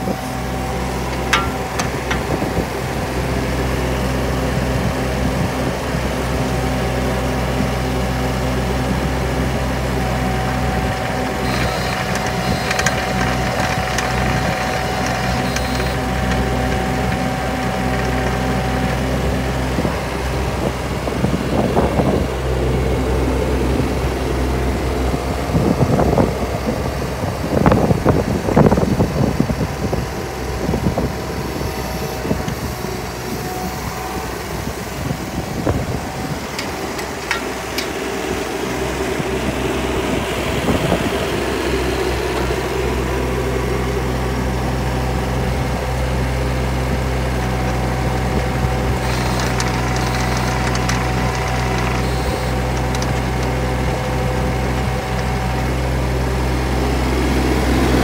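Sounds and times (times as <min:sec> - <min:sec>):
thin steady whine: 0:00.0 - 0:07.7, 0:08.3 - 0:27.9, 0:30.0 - 0:58.0
diesel engine idling: 0:00.0 - 0:58.0.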